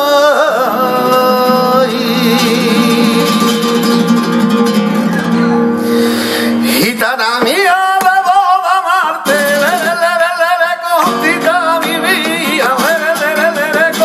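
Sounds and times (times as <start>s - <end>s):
man singing flamenco: 0.0s - 5.1s, 6.6s - 14.0s
flamenco guitar: 0.0s - 14.0s.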